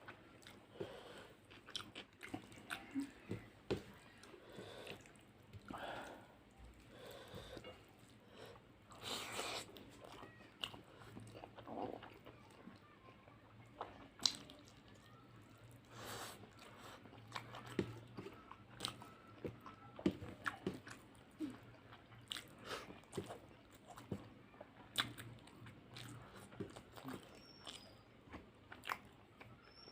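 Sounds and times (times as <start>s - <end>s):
person chewing food: 0.0s - 12.9s, 13.7s - 15.2s, 15.8s - 29.9s.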